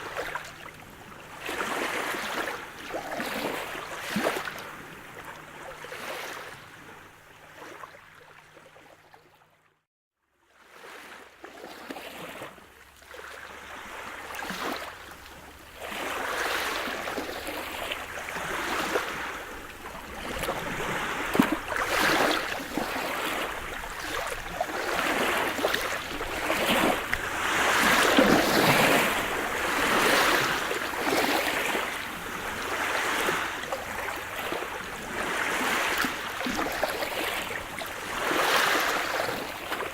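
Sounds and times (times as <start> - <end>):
sea waves breaking: 0.0 - 8.1, 13.2 - 39.9.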